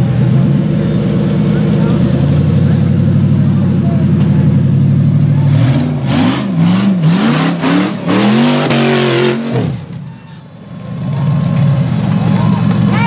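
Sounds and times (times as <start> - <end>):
buggy engine revving: 0.0 - 13.0
tires spinning and spraying dirt: 0.0 - 13.0.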